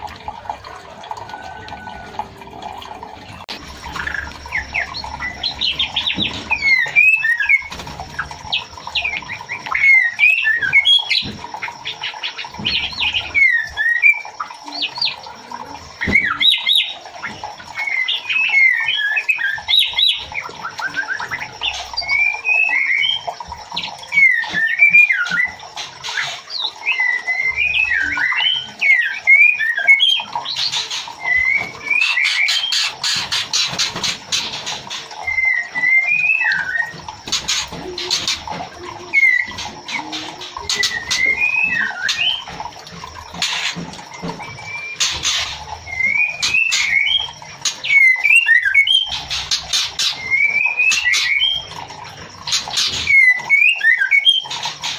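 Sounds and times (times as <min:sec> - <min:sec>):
bird chirps and trills: 0:03.0 - 0:54.9.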